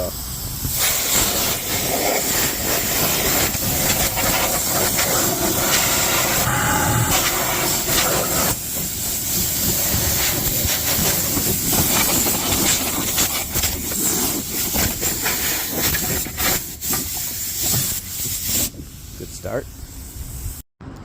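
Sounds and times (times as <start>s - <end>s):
rushing hiss of gas from nozzle: 0.0s - 6.5s, 7.5s - 19.2s.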